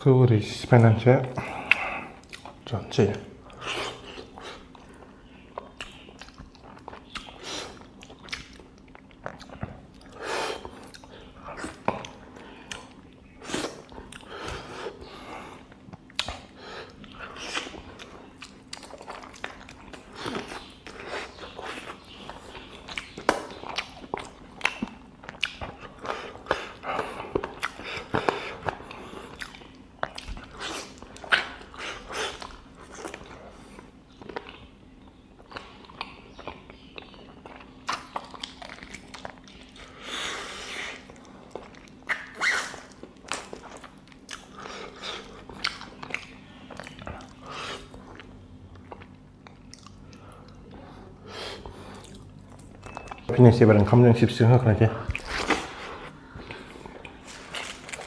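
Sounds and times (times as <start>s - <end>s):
person chewing meat: 1.2s - 53.3s, 55.0s - 58.0s.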